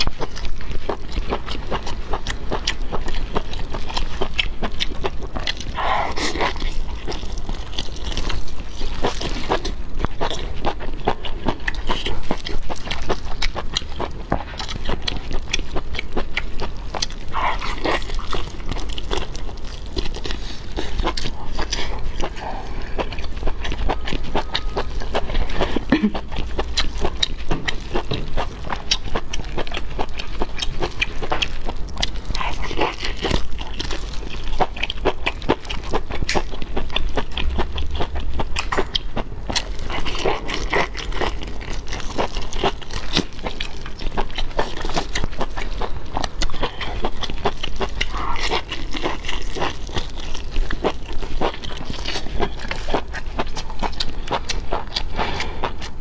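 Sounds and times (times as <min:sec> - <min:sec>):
wet chewing and lip smacking: 0:00.0 - 0:56.0.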